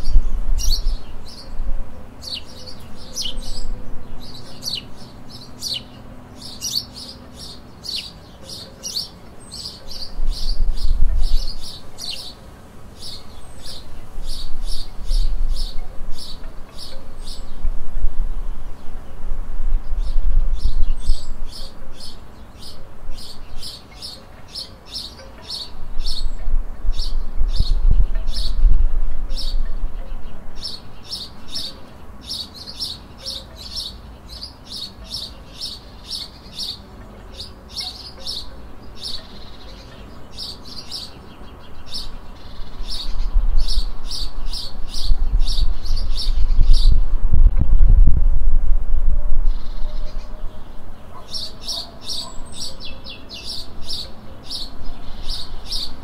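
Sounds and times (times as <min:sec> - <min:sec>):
small songbird chirping: 0:00.0 - 0:48.2, 0:49.4 - 0:56.0.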